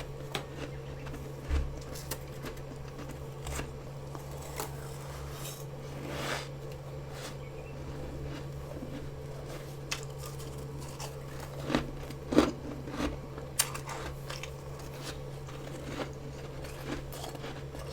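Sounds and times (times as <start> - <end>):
frost being chewed crunching: 0.0 - 17.9
steady low hum: 0.0 - 17.9.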